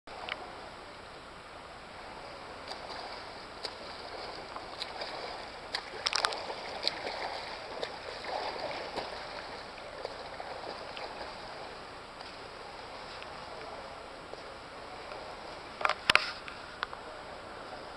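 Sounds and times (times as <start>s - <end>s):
swimmer splashing: 0.1s - 17.9s
wash of water noise: 0.1s - 17.9s.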